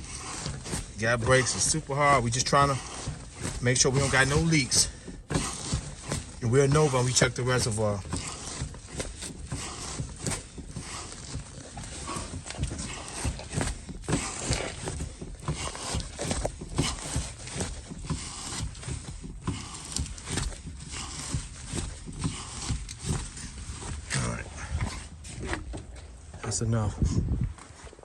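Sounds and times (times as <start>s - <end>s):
brake pedal knocks and thumps: 0.0s - 28.0s.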